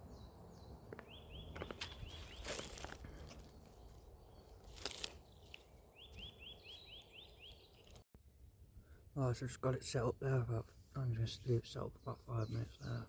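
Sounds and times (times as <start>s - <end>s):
songbird chirping: 0.0s - 8.0s, 9.4s - 13.0s.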